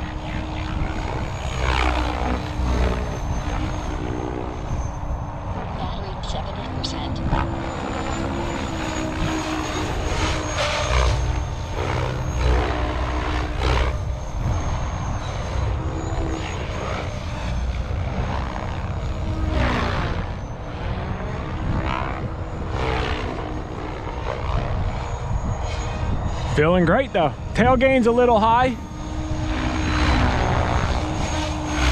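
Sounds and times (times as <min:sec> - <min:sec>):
helicopter rotor hum: 0:00.0 - 0:31.9
high motor whine: 0:00.0 - 0:31.9.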